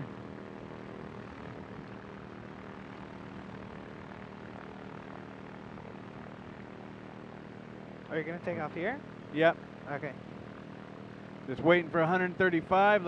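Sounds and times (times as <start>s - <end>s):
small aircraft engine and propeller: 0.0s - 13.0s.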